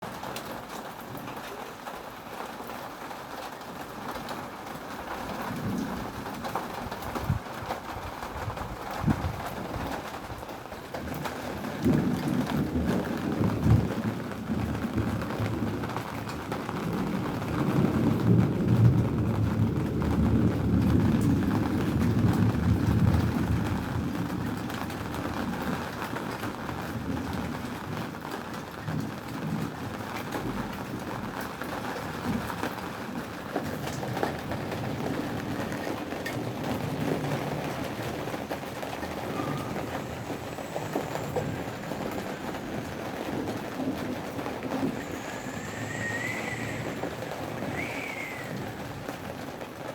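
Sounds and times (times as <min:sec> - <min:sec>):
steady rain: 0:00.0 - 0:49.9
low rumble of thunder: 0:01.2 - 0:49.9.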